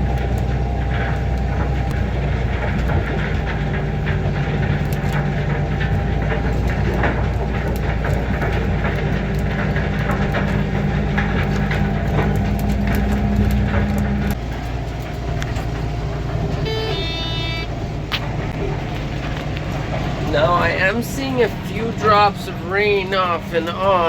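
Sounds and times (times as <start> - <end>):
clattering rattles: 0.0 - 24.0
tractor engine droning: 0.0 - 24.0.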